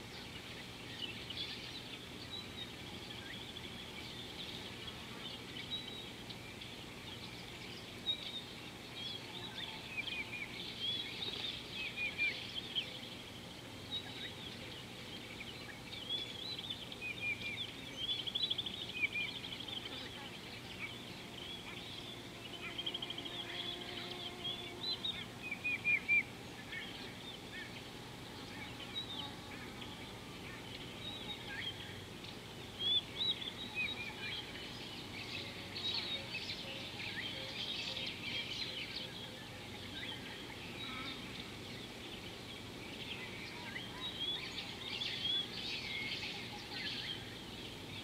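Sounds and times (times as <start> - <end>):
outdoor background hiss: 0.0 - 48.0
small birds chirping: 0.0 - 48.0.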